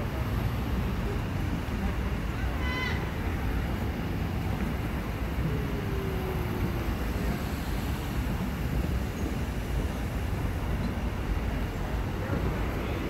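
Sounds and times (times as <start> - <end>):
cars driving slowly past: 0.0 - 13.0.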